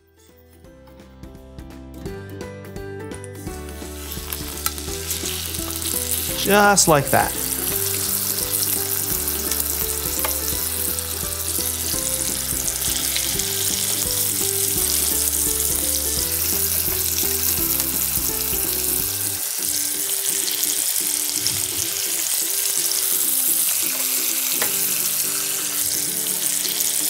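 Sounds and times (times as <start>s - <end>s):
background music: 0.0s - 27.0s
chicken sizzling in oil: 3.4s - 27.0s.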